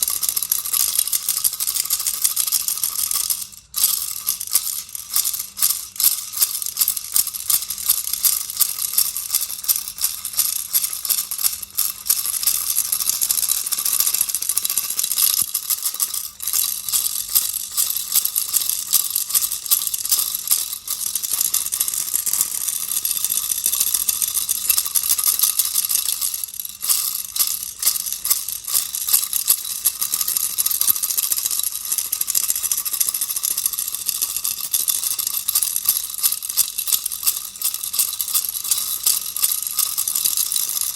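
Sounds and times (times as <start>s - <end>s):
baby's rattle shaking: 0.0s - 40.9s.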